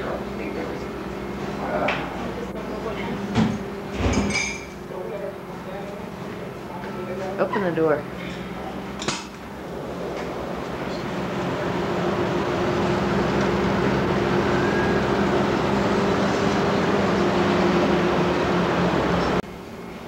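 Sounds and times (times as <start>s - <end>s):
low steady hum: 0.0s - 19.4s.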